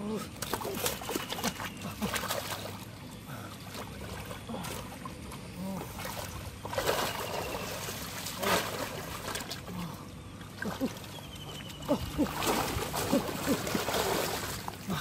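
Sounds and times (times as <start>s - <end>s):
steady low hum: 0.0s - 15.0s
river water splashing: 0.2s - 15.0s.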